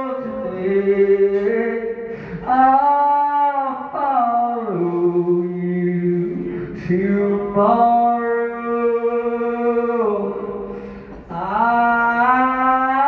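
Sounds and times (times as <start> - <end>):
man singing long held notes: 0.0 - 13.0.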